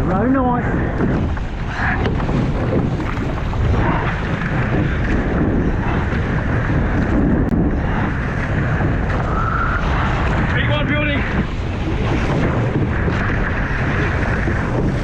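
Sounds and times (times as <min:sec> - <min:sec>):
sea water rushing: 0:00.0 - 0:15.0
wind buffeting microphone: 0:00.0 - 0:15.0.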